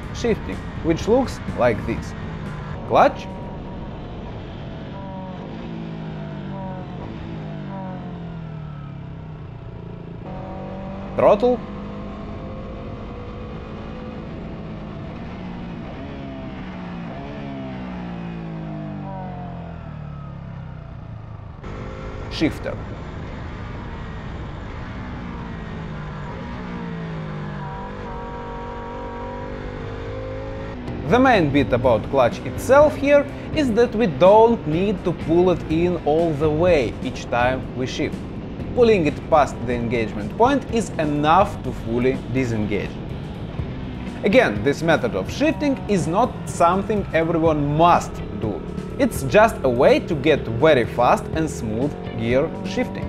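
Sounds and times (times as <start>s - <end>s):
motorcycle engine downshifting: 0.0s - 53.0s.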